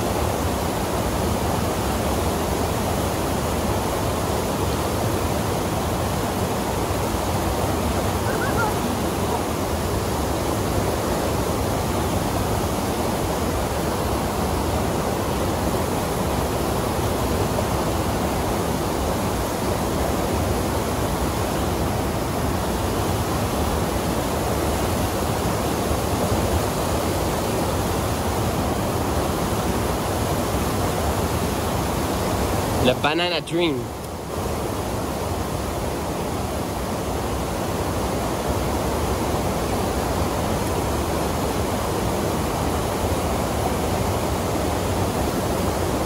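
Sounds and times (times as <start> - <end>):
waterfall rushing over rocks: 0.0 - 46.0.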